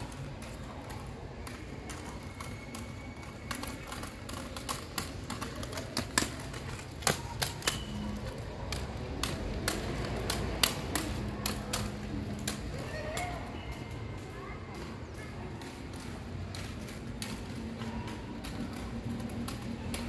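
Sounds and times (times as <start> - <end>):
inline skates clattering on paving: 0.0 - 20.0.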